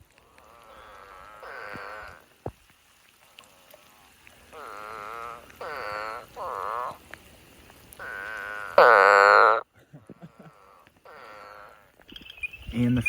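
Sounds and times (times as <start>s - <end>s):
toads calling: 0.2s - 2.2s, 3.2s - 7.0s, 8.0s - 13.0s.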